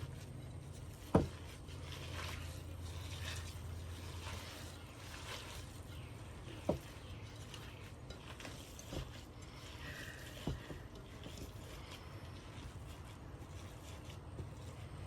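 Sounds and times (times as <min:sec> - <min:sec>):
mixture worked in a mixing bowl: 0:00.0 - 0:15.0.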